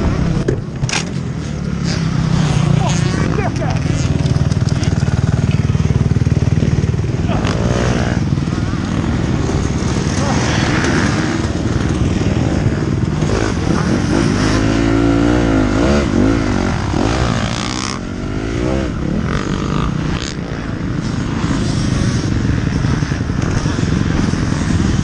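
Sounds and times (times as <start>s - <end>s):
motorbike engine revving: 0.0s - 25.0s
wind noise: 0.0s - 25.0s.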